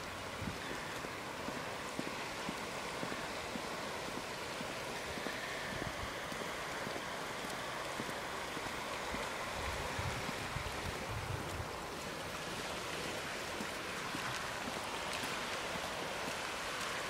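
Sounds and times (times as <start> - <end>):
floodwater rushing: 0.0 - 17.0
small water splashes: 0.0 - 17.0.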